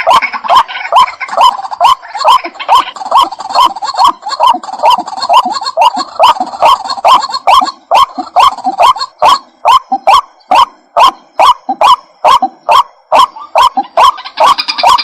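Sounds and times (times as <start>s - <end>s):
high chattering: 0.0s - 15.0s
waterhen croaking calls: 0.0s - 15.0s.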